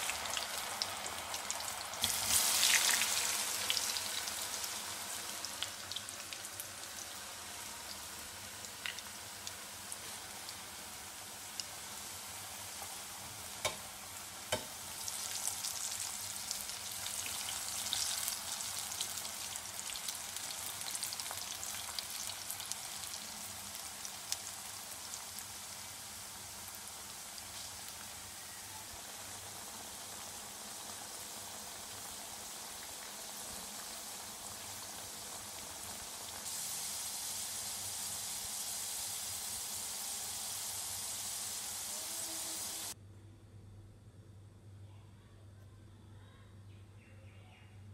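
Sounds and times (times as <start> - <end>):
potatoes sizzling in hot oil: 0.0 - 43.0.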